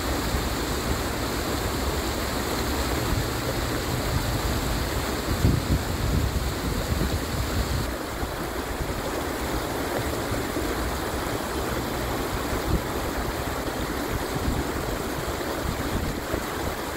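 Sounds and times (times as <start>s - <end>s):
stream water rushing: 0.0s - 16.9s.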